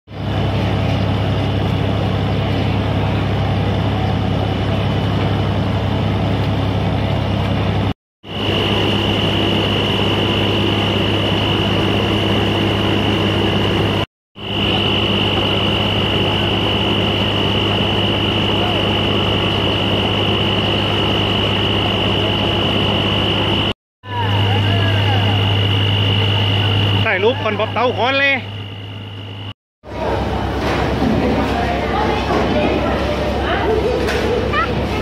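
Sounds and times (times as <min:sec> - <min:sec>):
steady high whine: 0:00.1 - 0:30.5
boat engine droning: 0:00.1 - 0:35.0.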